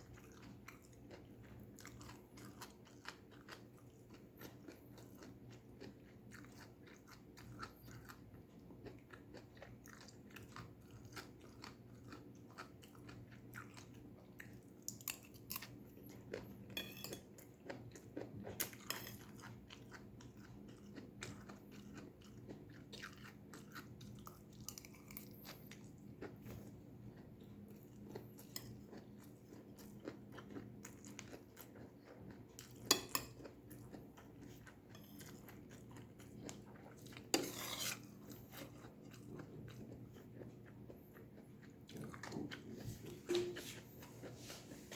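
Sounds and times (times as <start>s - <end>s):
crunchy chewing: 0.0s - 44.9s
faint steady hum: 0.0s - 44.9s.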